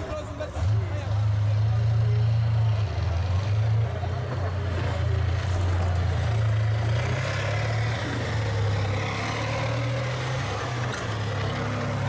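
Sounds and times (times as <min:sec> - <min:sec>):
tank engine deep drone: 0:00.0 - 0:12.0.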